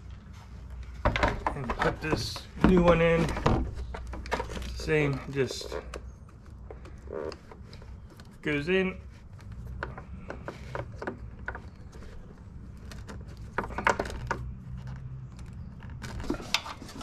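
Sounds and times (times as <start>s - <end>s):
plastic parts clicking and rattling: 1.0s - 17.0s.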